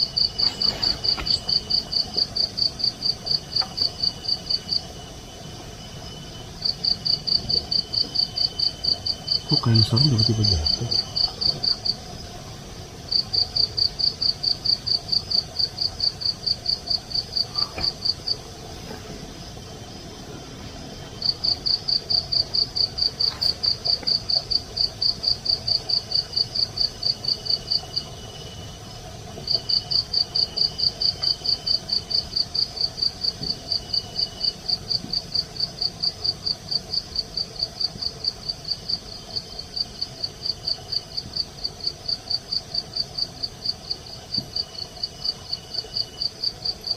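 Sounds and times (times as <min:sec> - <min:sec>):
cricket chirping: 0:00.0 - 0:46.9.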